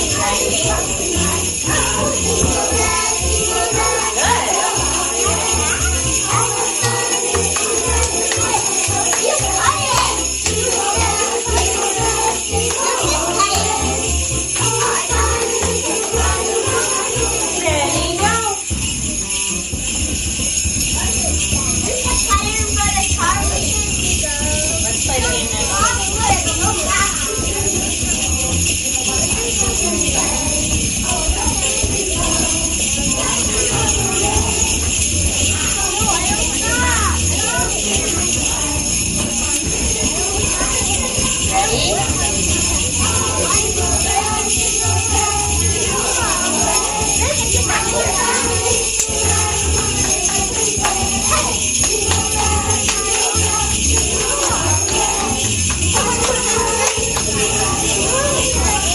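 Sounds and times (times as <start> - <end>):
sleigh bells jingling: 0.0 - 58.9.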